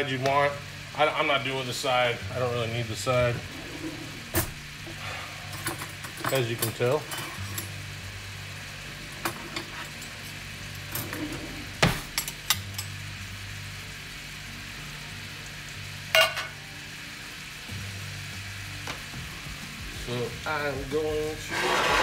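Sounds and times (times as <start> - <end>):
chicken sizzling in a skillet: 0.0 - 22.0.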